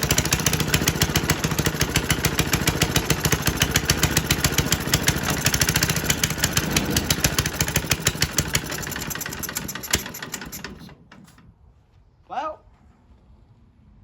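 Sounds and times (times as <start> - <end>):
single-cylinder engine running: 0.0 - 11.5.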